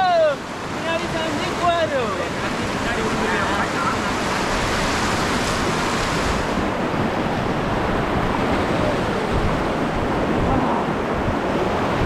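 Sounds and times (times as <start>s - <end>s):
river rapids rushing: 0.0s - 12.0s
wind buffeting microphone: 0.0s - 12.0s.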